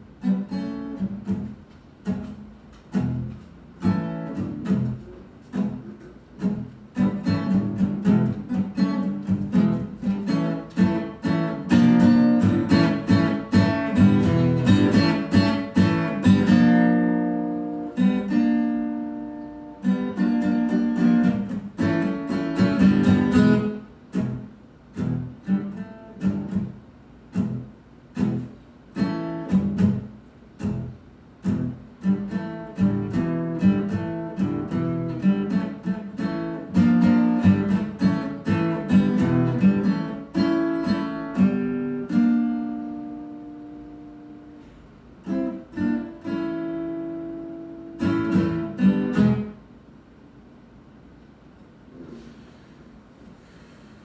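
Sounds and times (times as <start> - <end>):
acoustic guitar strumming: 0.0 - 49.6.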